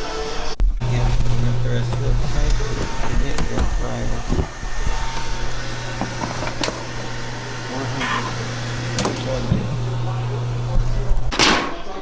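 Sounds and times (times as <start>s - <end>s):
microwave oven humming: 0.3s - 12.0s.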